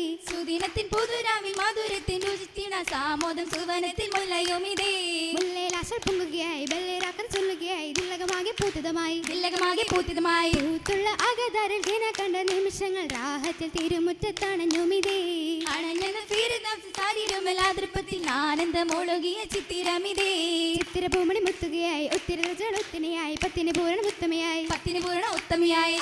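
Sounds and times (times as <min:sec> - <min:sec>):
women singing: 0:00.0 - 0:26.0
sharp hand claps: 0:00.3 - 0:26.0.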